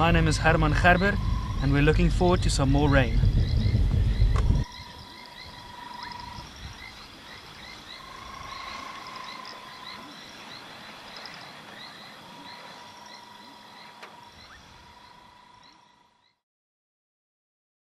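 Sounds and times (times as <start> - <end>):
frog long steady note: 0.0 - 16.4
frogs chirping: 0.0 - 16.4.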